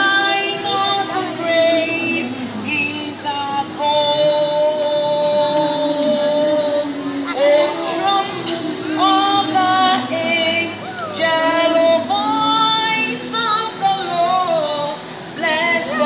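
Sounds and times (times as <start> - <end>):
woman singing a hymn: 0.0 - 16.0.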